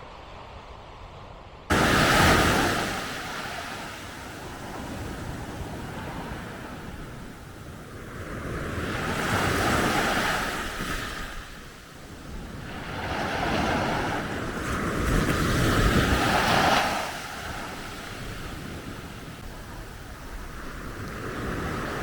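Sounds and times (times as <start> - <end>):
wind rumbling on microphone: 0.0 - 22.0
waves washing up shingle beach: 1.7 - 22.0.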